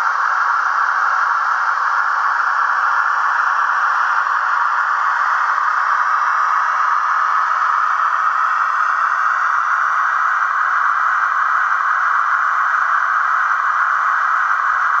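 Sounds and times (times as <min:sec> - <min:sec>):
model locomotive hissing: 0:00.0 - 0:15.0.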